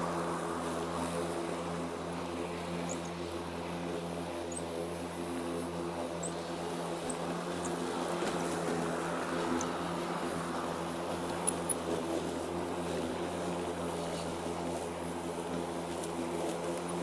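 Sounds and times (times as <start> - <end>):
lawn mower humming: 0.0 - 17.0.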